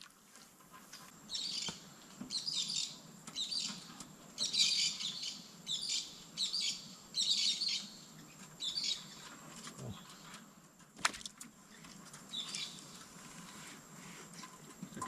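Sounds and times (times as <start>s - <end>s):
birds chattering and chirping: 0.5s - 15.0s.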